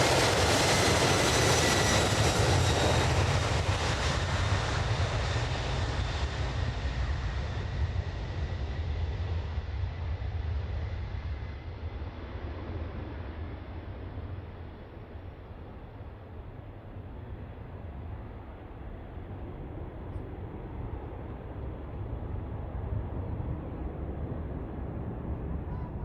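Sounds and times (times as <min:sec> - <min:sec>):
jet engines at takeoff power: 0:00.0 - 0:26.0.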